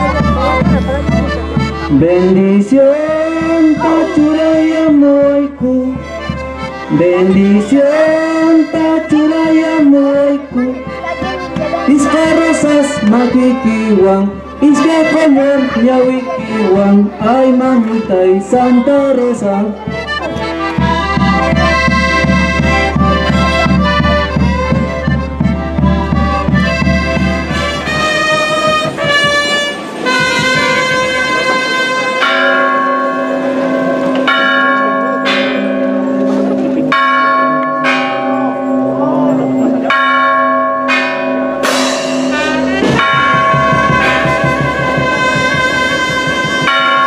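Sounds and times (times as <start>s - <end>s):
traditional band music: 0.0s - 47.0s
church bells ringing: 6.1s - 47.0s.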